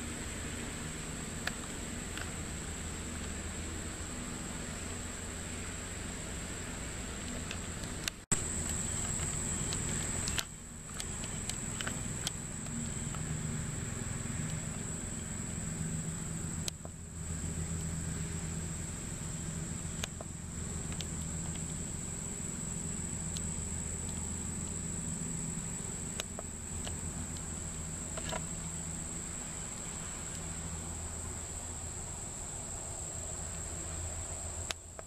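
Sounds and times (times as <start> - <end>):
high-pitched insect chorus: 0.0 - 35.0
low steady hum: 0.0 - 35.0.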